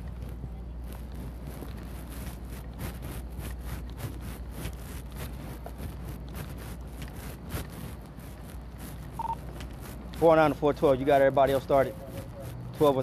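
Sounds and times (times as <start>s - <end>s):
clothing brushing against camera: 0.0s - 13.0s
footsteps on pavement: 0.0s - 13.0s
steady low hum: 0.0s - 13.0s.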